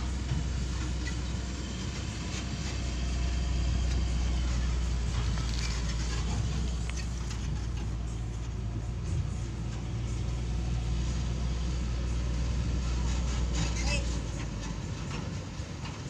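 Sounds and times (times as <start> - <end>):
diesel truck engines humming: 0.0 - 16.0.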